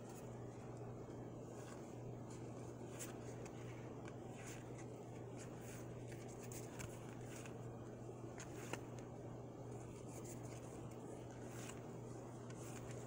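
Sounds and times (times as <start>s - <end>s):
cards flipping and swishing: 0.0s - 13.0s
low steady hum: 0.0s - 13.0s.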